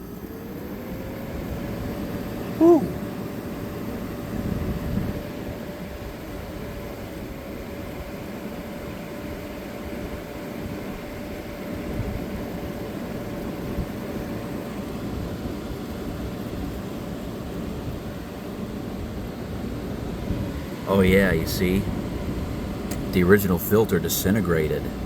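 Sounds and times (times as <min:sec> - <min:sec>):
air conditioner fan rush: 0:00.0 - 0:25.0
air conditioner hum: 0:00.0 - 0:25.0.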